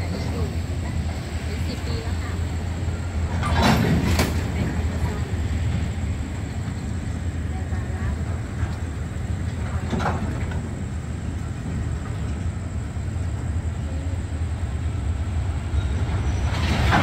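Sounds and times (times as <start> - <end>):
freight train rumbling on track: 0.0 - 17.0.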